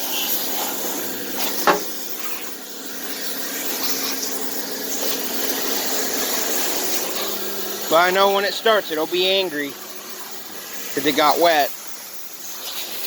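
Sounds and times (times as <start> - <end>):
pressure washer spraying water: 0.0 - 13.0.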